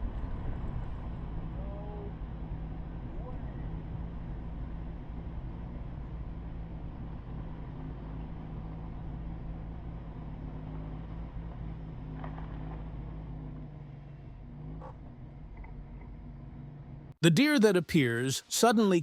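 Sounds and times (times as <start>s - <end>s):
car engine and road noise: 0.0s - 18.1s.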